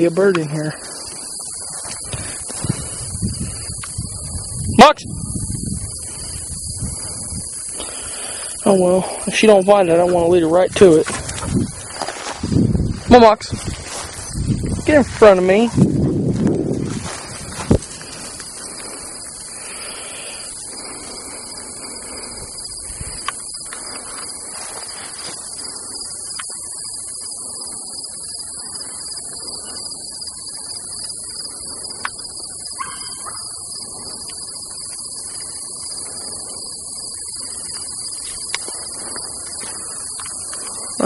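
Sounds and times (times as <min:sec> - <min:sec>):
crickets chirping: 0:00.0 - 0:41.0.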